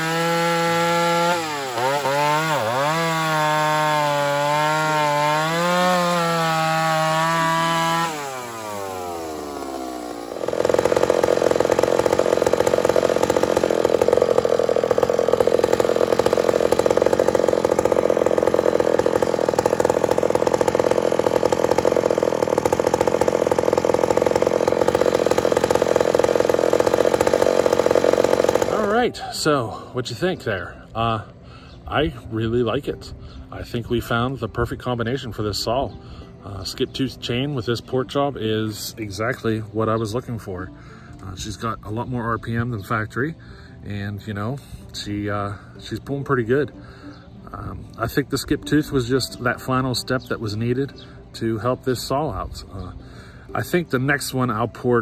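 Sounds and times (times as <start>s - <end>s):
chainsaw cutting through wood: 0.0s - 29.9s, 37.6s - 55.0s
chainsaw running at high revs: 0.0s - 29.9s, 39.3s - 54.9s.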